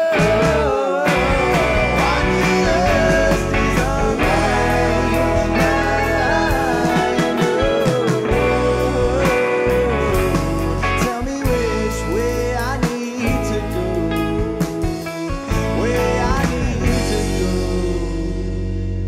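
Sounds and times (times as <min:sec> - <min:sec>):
bass guitar: 0:00.0 - 0:19.0
drums: 0:00.0 - 0:19.0.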